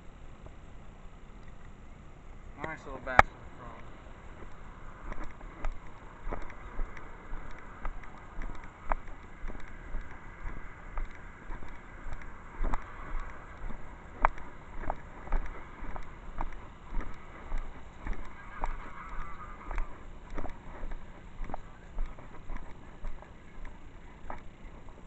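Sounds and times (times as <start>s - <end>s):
road traffic passing: 0.0s - 25.0s
footsteps: 2.6s - 25.0s.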